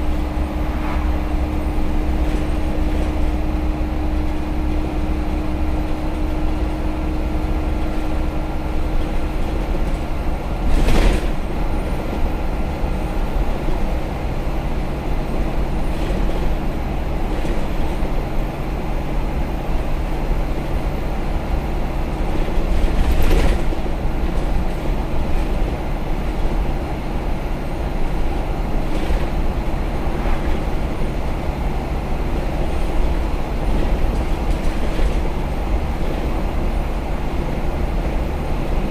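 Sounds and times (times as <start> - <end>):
bus engine under load: 0.0 - 38.9
road noise: 0.0 - 38.9.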